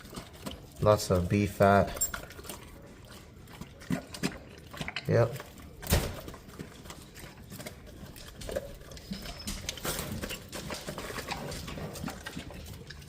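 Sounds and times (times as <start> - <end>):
dog chewing meat and bone: 0.0 - 13.0.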